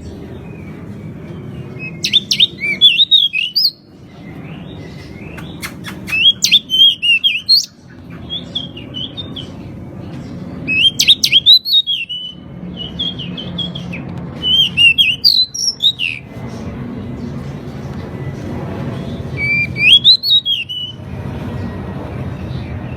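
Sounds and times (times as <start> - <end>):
bird twittering song: 0.0 - 22.9.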